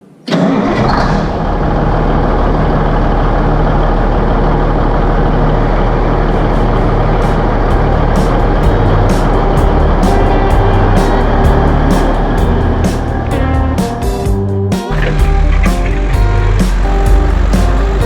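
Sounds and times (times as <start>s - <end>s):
vehicle engine running: 0.6s - 18.0s.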